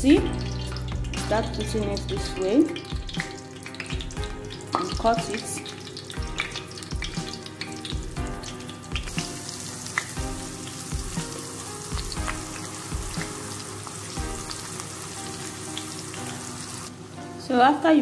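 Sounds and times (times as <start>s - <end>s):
paste sizzling in hot oil: 0.0s - 17.1s.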